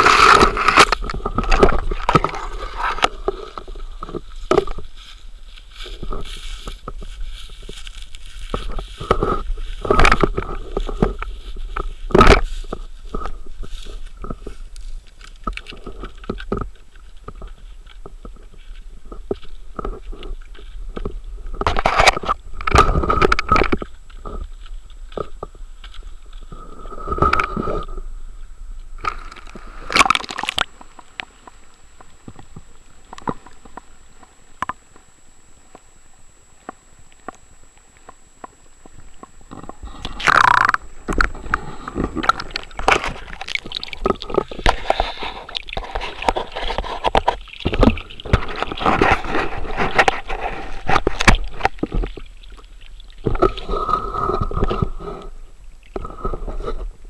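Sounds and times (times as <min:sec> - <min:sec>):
faint high whine: 0:00.0 - 0:57.0
microphone handling noise: 0:00.0 - 0:57.0.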